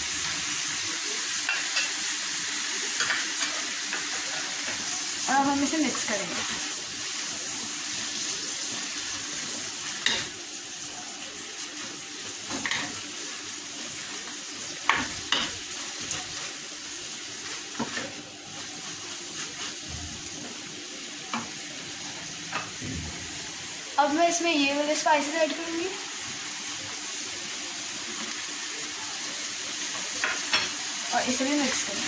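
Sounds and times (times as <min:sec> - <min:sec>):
chicken sizzling in frying pan: 0:00.0 - 0:32.0.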